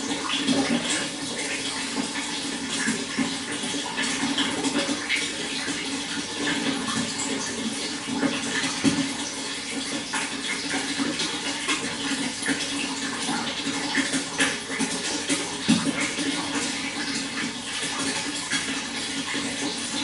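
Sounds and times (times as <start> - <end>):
running water trickling: 0.0 - 20.0.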